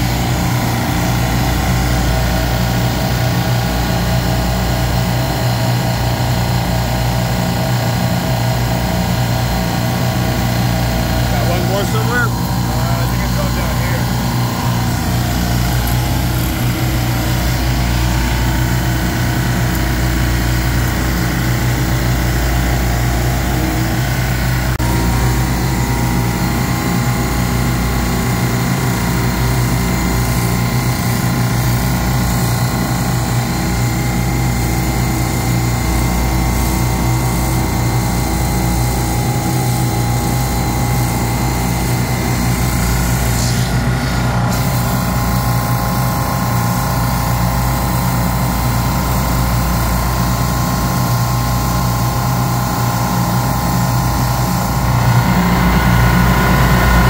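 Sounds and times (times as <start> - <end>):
compressor machinery hum: 0.0 - 57.0.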